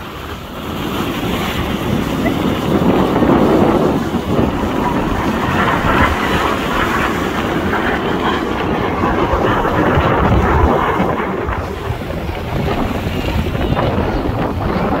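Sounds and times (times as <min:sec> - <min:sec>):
jets passing overhead: 0:00.0 - 0:15.0
wind buffeting microphone: 0:00.0 - 0:15.0.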